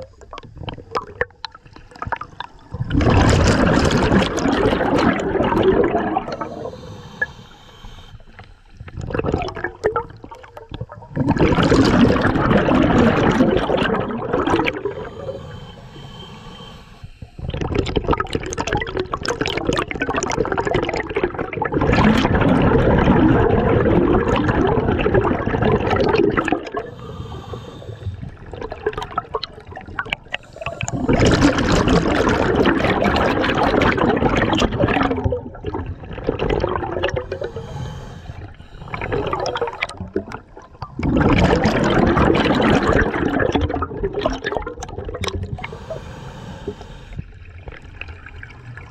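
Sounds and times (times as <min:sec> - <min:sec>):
underwater exhaled bubbles: 0:00.0 - 0:48.9.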